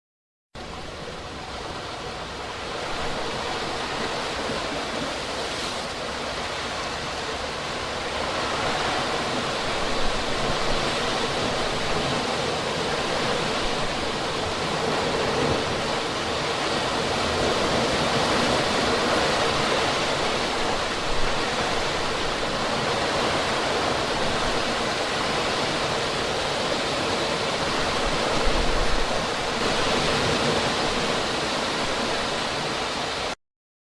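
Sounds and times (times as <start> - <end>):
stream of water rushing: 0.6 - 33.4.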